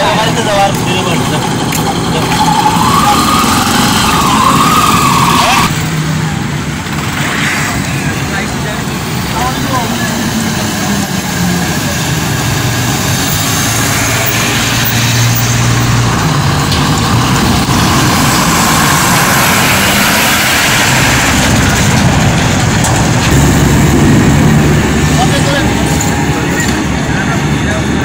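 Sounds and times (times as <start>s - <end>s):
truck engines humming: 0.0s - 28.0s
tyre and road noise: 0.0s - 28.0s.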